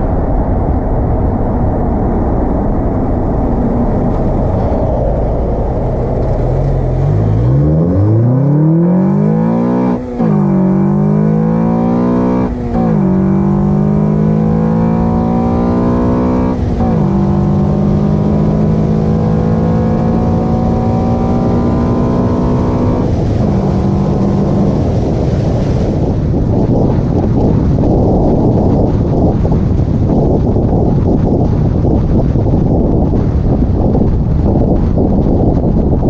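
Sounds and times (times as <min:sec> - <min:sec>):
car engine accelerating through gears: 0:02.9 - 0:33.2.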